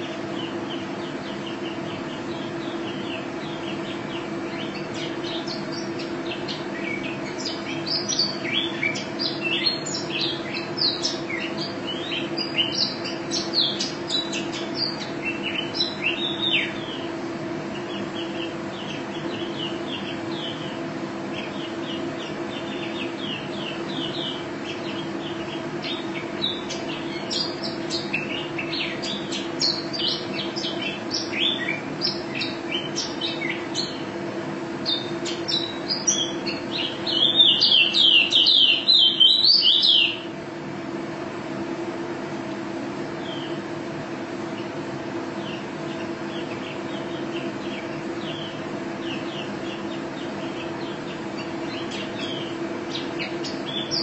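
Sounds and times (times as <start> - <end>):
bird singing high chirps: 0.0 - 17.1, 17.7 - 34.0, 34.8 - 40.3, 45.4 - 54.0.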